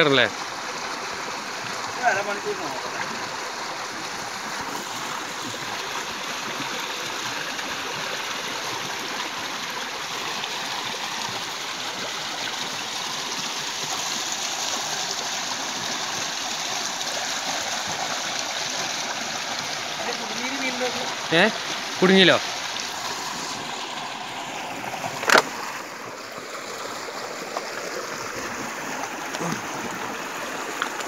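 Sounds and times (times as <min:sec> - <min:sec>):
floodwater rushing and splashing: 0:00.0 - 0:31.0.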